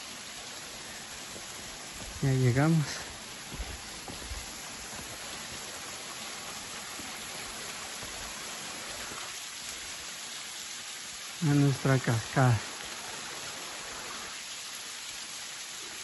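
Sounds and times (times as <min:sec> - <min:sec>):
waterfall splashing onto stones: 0:00.0 - 0:16.0.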